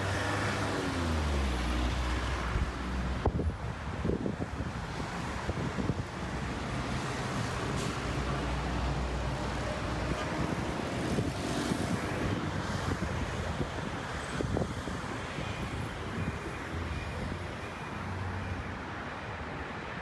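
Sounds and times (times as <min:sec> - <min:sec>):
cars passing on a street: 0:00.0 - 0:20.0.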